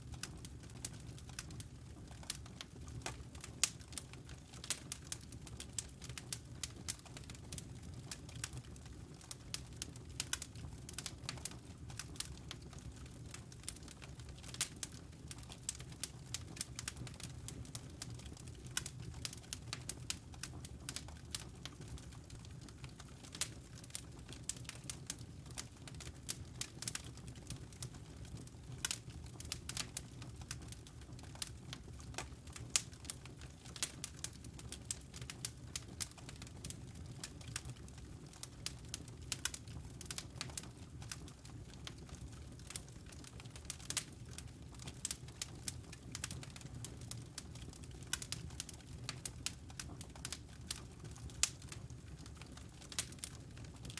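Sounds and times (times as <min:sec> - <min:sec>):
fire crackling and popping: 0:00.0 - 0:53.9.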